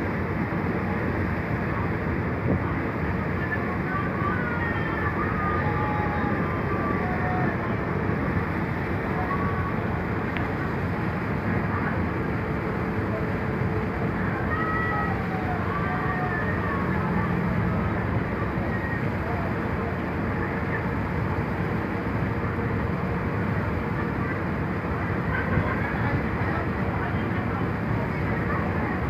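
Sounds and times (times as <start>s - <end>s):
faint voices: 0.0s - 29.0s
ferry engines rumbling: 0.0s - 29.0s
water rushing along hull: 0.0s - 29.0s.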